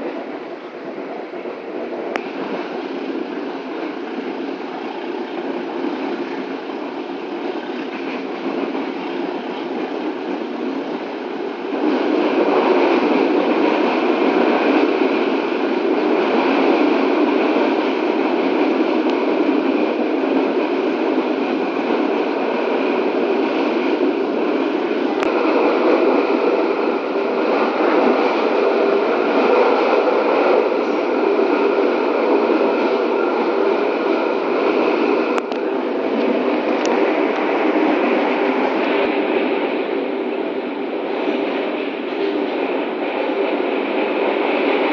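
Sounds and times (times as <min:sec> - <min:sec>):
train rumbling rattle from inside: 0:00.0 - 0:44.9.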